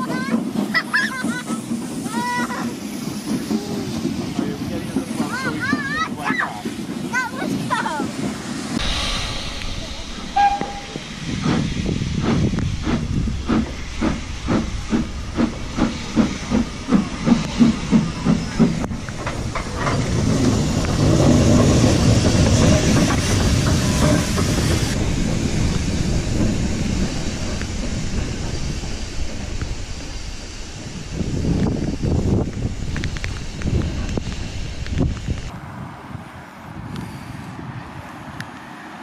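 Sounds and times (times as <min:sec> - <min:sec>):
steam locomotive chuffing: 0:00.0 - 0:35.5
steam locomotive rushing hiss: 0:00.0 - 0:35.6.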